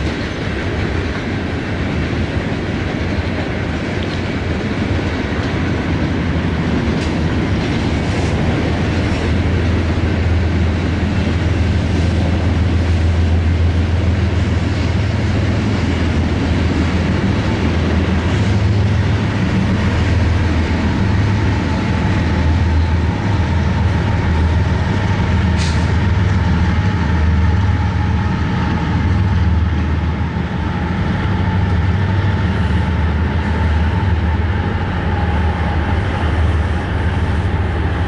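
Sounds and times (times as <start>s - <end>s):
freight train rumbling past: 0.0s - 38.0s.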